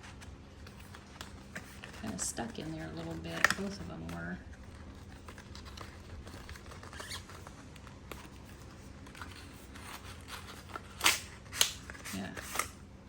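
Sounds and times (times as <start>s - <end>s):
packaging clicks and rustles: 0.0s - 12.8s
steady low hum: 0.0s - 13.0s.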